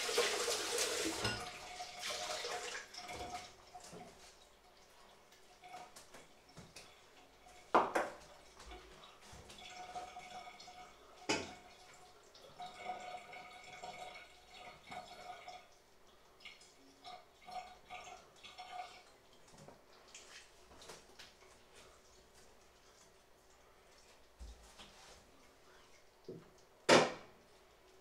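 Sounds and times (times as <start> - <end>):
water dripping and trickling: 0.0 - 28.0.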